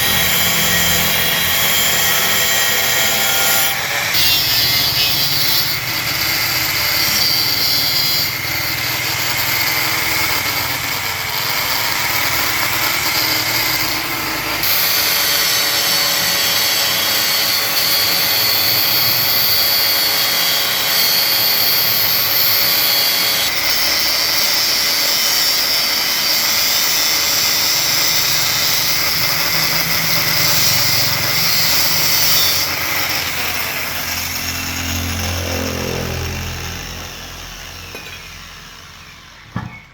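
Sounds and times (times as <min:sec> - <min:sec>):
electric power tool motor: 0:00.0 - 0:39.9.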